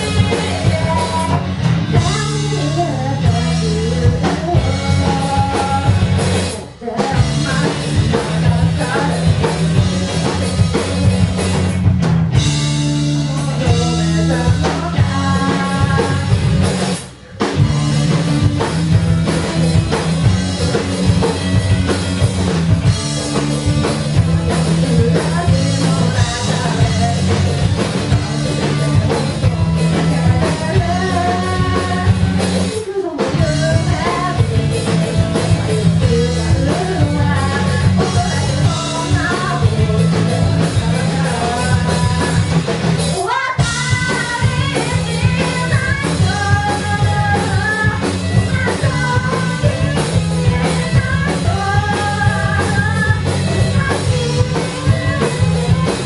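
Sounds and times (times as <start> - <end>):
person singing: 0.0 - 10.9, 12.6 - 56.0
live rock band playing: 0.0 - 56.0.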